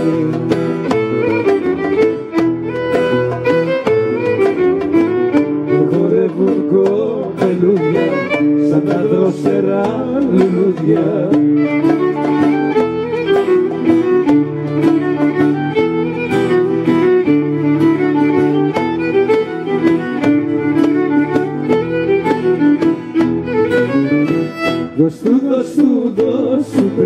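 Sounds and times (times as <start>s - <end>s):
goblet drum beat: 0.0s - 27.0s
guitar accompaniment: 0.0s - 27.0s
violin melody: 0.0s - 27.0s.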